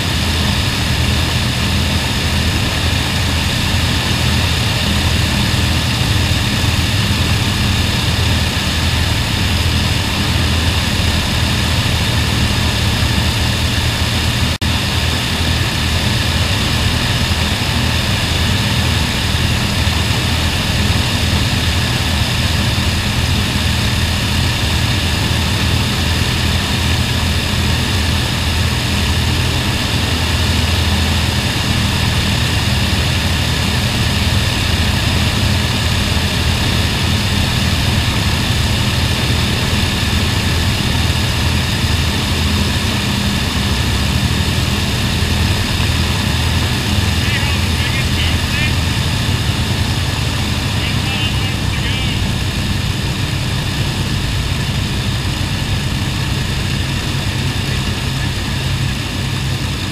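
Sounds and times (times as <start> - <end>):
propeller aircraft engines running: 0.0 - 59.9.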